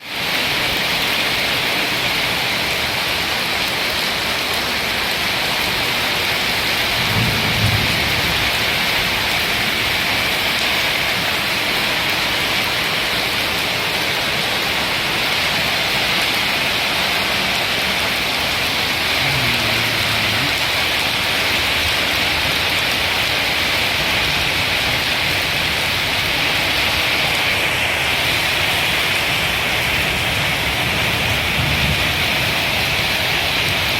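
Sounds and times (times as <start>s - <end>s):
rain falling: 0.0s - 33.9s.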